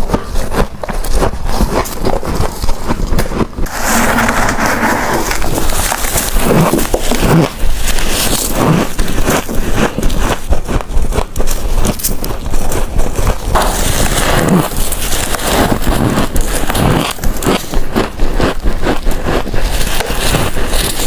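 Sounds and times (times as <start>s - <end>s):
frost crunching being chewed: 0.0s - 3.7s, 5.2s - 21.0s.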